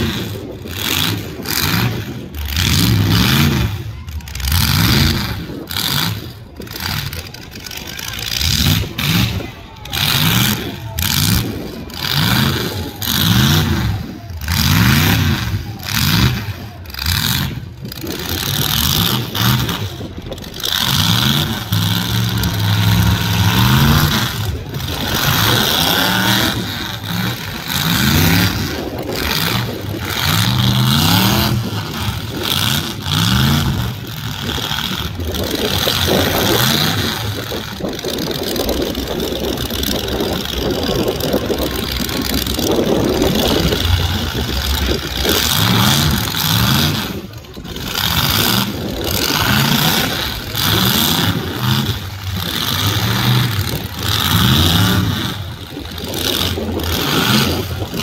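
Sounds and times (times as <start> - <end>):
mini truck engines revving: 0.0 - 58.0.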